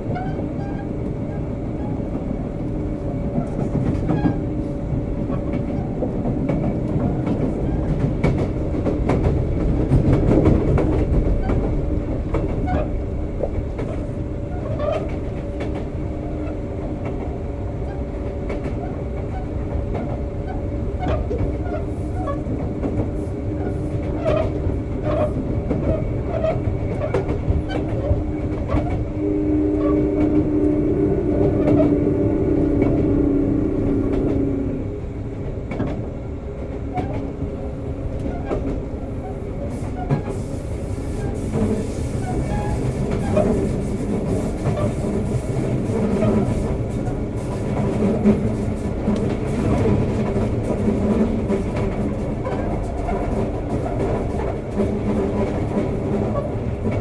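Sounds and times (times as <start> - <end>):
train motor hum: 0.0 - 57.0
train wheels clicking on rail joints: 0.0 - 57.0.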